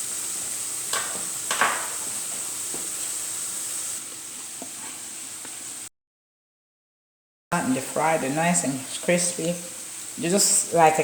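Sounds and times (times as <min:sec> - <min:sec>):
plantain sizzling in hot oil: 0:00.0 - 0:05.9, 0:07.6 - 0:11.0.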